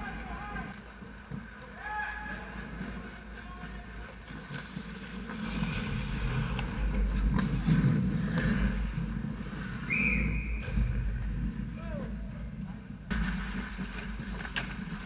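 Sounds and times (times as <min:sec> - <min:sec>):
skates scraping ice: 0:00.0 - 0:15.0.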